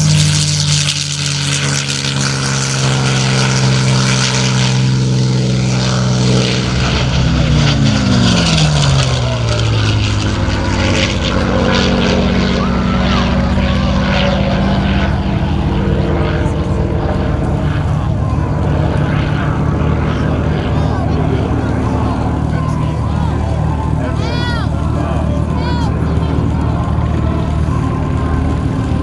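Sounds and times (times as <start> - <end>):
propeller plane engine passing: 0.0 - 29.0.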